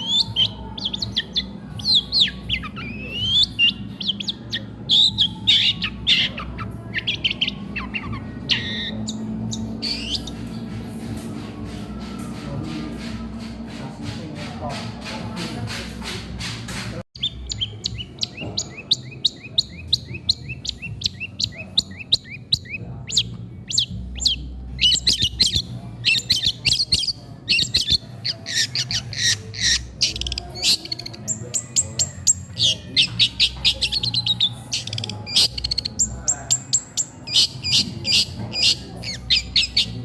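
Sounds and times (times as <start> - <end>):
bird chirping song: 0.0 - 13.7, 17.2 - 40.0.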